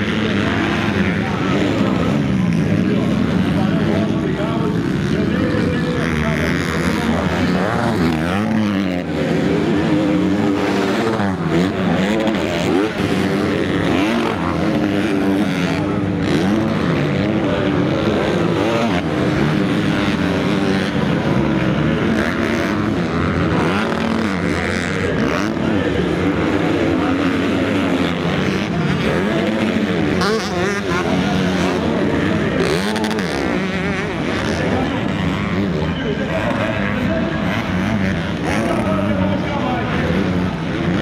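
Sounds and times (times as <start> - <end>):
motocross engines revving: 0.0 - 41.0.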